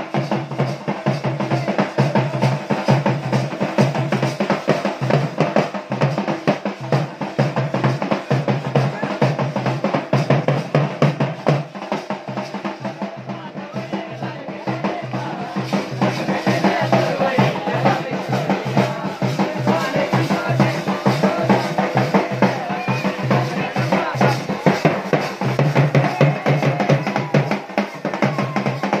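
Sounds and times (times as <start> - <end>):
fast folk drumming: 0.0 - 29.0.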